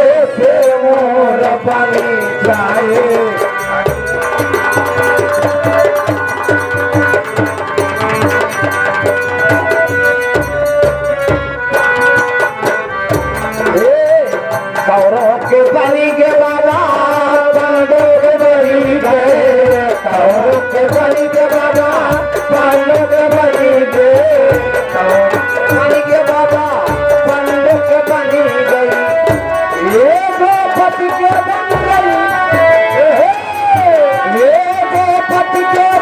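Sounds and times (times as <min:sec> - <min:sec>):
hand drum beats: 0:00.0 - 0:36.0
wavering held melody: 0:00.2 - 0:36.0.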